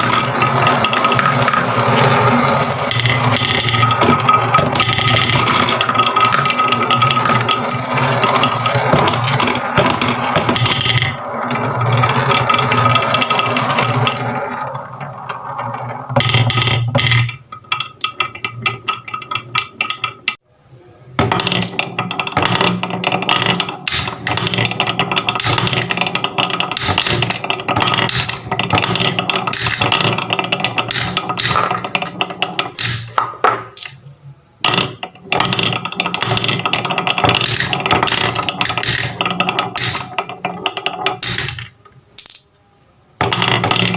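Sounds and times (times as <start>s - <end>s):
marbles clattering down wooden run: 0.0s - 20.4s, 21.2s - 34.0s, 34.6s - 42.5s, 43.2s - 43.9s.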